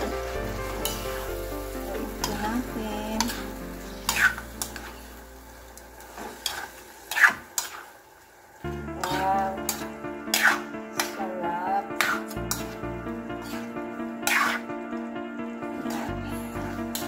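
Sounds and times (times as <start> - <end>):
spatula scraping metal wok: 0.0 - 5.3, 6.0 - 8.1, 9.0 - 14.8, 15.6 - 17.0
food frying: 0.0 - 17.0.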